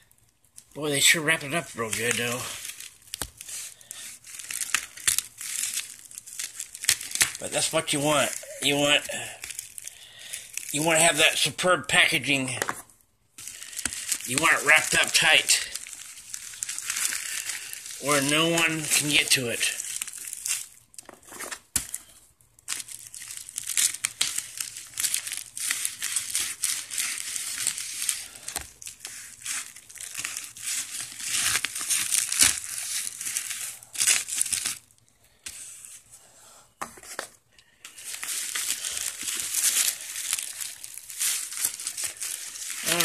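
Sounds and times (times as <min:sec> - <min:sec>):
plastic wrap crinkling and tearing: 0:00.0 - 0:12.6, 0:13.4 - 0:36.1, 0:37.6 - 0:43.0.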